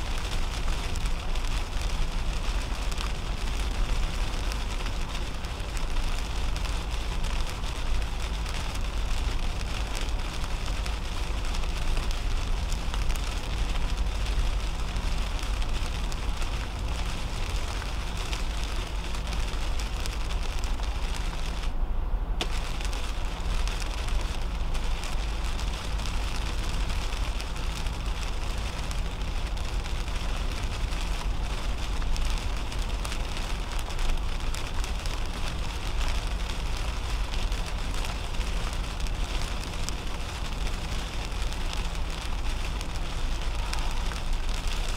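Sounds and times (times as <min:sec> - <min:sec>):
rain spattering on windshield: 0:00.0 - 0:21.8, 0:22.4 - 0:44.9
tyres hissing on wet road: 0:00.0 - 0:21.8, 0:22.4 - 0:44.9
road rumble inside car: 0:00.0 - 0:44.9.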